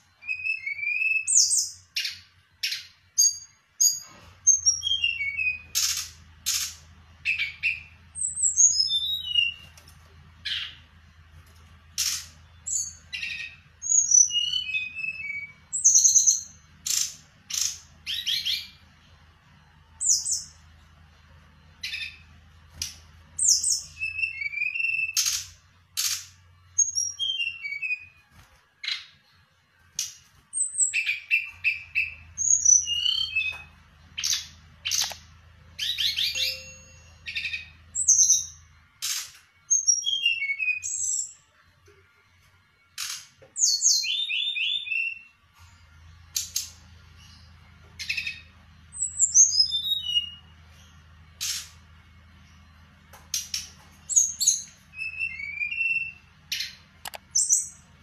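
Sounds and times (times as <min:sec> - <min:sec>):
songbird singing: 0:00.0 - 0:28.2, 0:30.0 - 0:42.0, 0:43.0 - 0:58.0.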